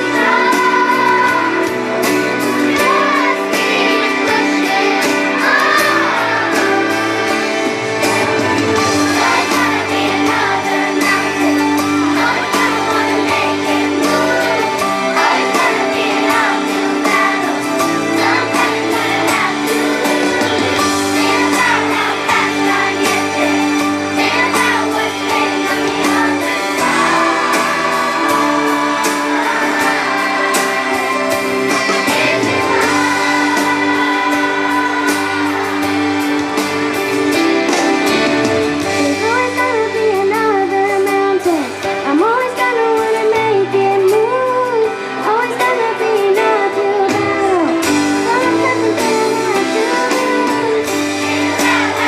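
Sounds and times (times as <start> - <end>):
children's chorus singing: 0.0 - 40.5, 41.3 - 52.0
instrumental accompaniment: 0.0 - 52.0.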